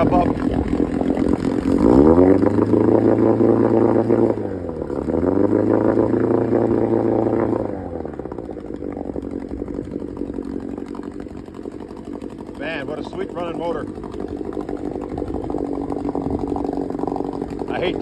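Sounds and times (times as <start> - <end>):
outboard motor revving: 0.0 - 18.0.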